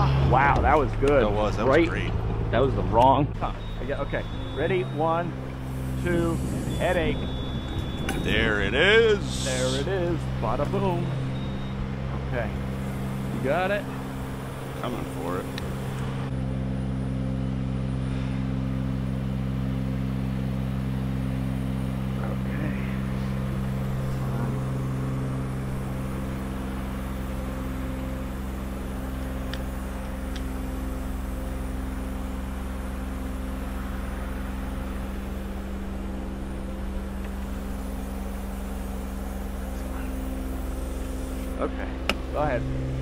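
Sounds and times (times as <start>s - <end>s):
engine droning steadily: 0.0s - 43.0s.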